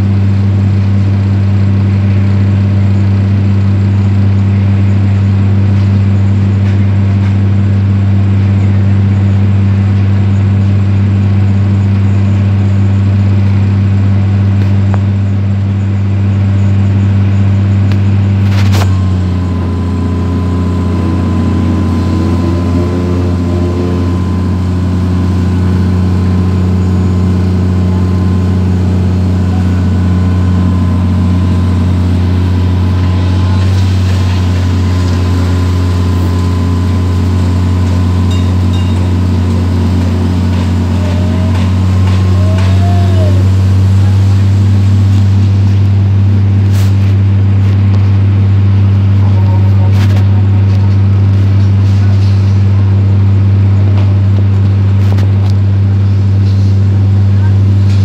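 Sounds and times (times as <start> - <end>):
diesel engine running: 0.0 - 58.0
faint steady whine: 0.0 - 58.0.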